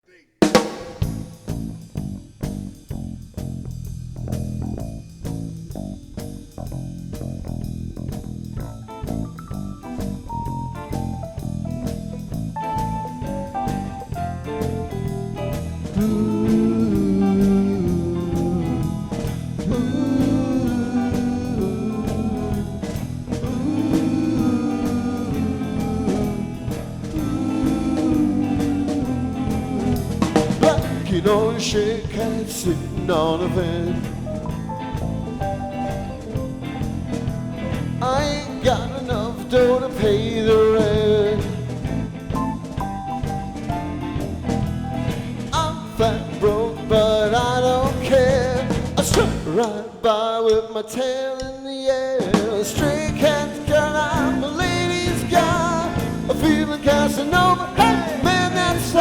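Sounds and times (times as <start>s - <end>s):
bluesy jazzy band playing: 0.4s - 49.8s, 52.2s - 59.0s.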